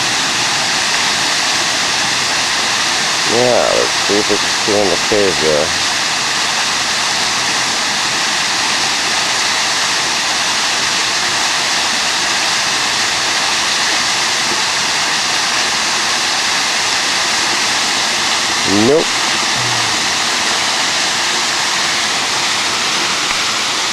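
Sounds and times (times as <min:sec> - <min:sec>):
waterfall splashing into pool: 0:00.0 - 0:23.9.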